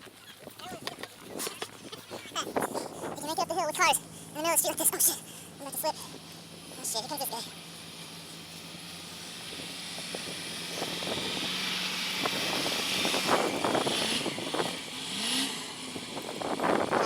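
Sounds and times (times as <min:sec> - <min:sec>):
car tyre and engine noise: 0:00.0 - 0:17.0.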